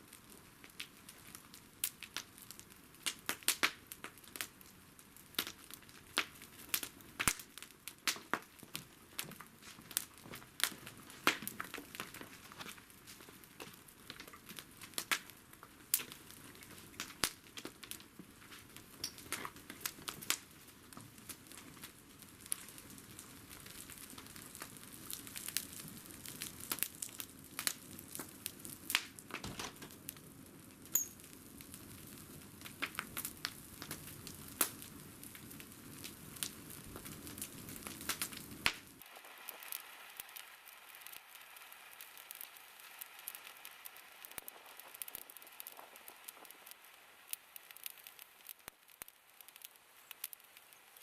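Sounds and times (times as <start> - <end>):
bonfire crackling: 0.0 - 51.0
fire hissing: 5.1 - 51.0.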